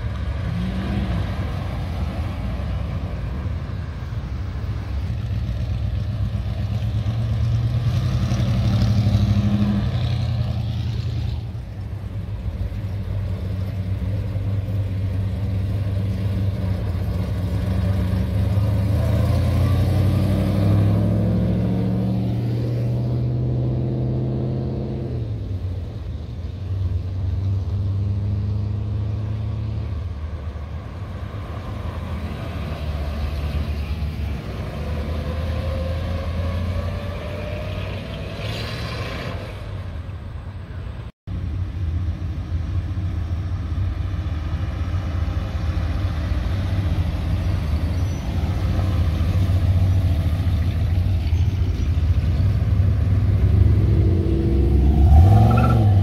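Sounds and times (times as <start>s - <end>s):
engine passing close: 0.0s - 40.2s, 41.4s - 56.0s
car engines rumbling past: 0.0s - 56.0s.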